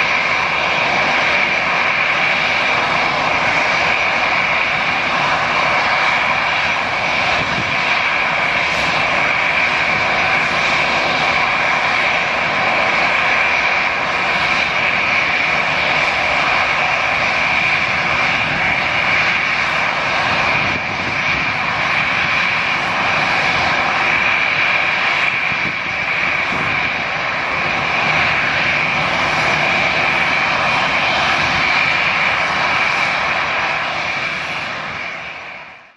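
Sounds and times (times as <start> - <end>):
constant high engine tone: 0.0 - 35.9
jet engines at takeoff thrust: 0.0 - 35.9.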